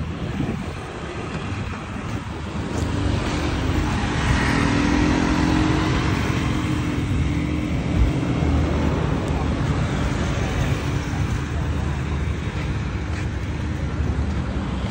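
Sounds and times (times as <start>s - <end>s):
road traffic rumble: 0.0s - 14.9s
vehicle engine hum passing: 0.0s - 14.9s.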